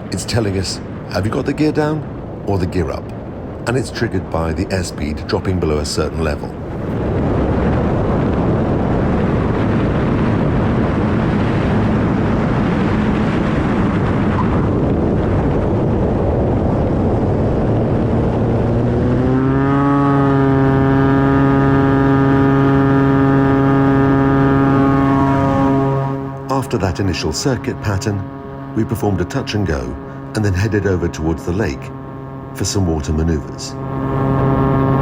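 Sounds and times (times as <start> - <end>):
plane engine droning in cabin: 0.0 - 35.0.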